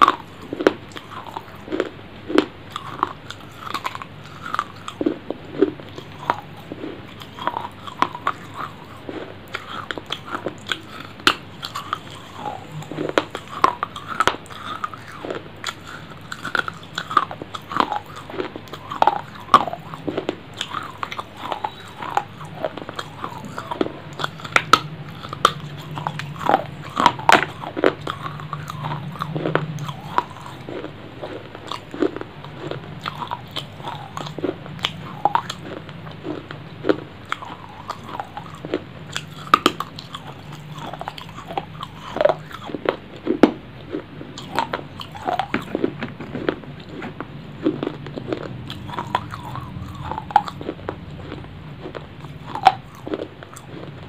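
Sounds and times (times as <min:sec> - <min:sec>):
chewing: 0:00.0 - 0:54.0
crunchy food biting: 0:00.0 - 0:54.0
steady low hum: 0:00.0 - 0:54.0.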